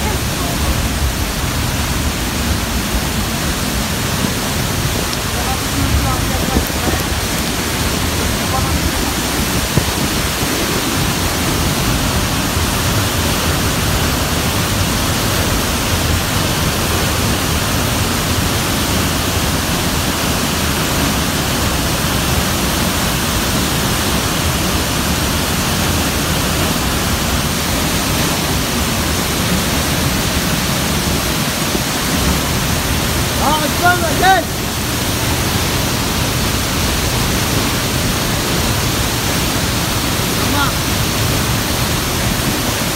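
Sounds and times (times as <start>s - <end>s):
waterfall rushing into pool: 0.0s - 42.9s.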